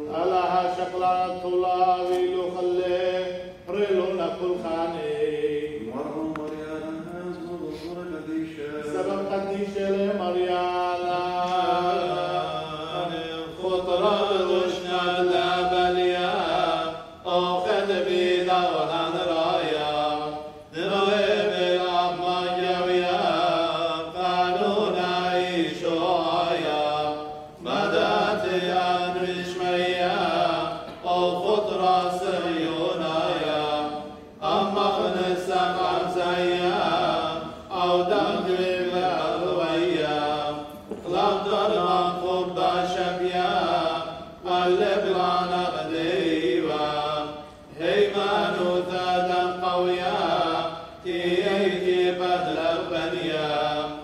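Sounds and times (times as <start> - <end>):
clergy chanting unaccompanied: 0.0 - 54.0.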